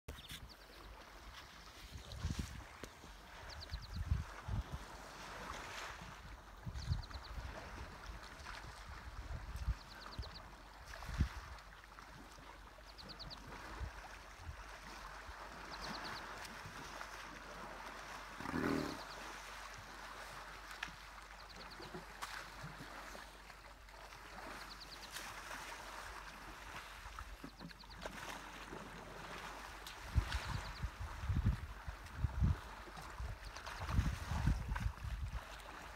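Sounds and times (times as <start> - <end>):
water sloshing and splashing: 0.2 - 35.9.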